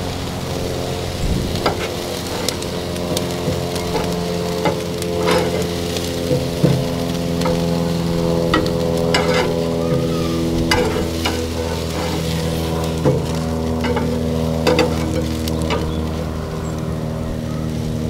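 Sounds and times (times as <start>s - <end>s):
food sizzling on a barbecue: 0.0s - 18.0s
low mechanical hum: 0.0s - 18.0s
utensil scraping a grill: 0.0s - 18.0s.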